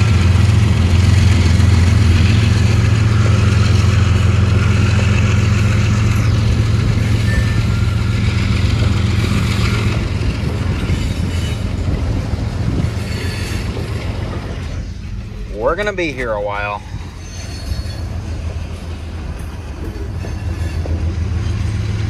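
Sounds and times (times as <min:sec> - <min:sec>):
boxcars rumbling by: 0:00.0 - 0:22.0
diesel locomotive drone: 0:00.0 - 0:22.0.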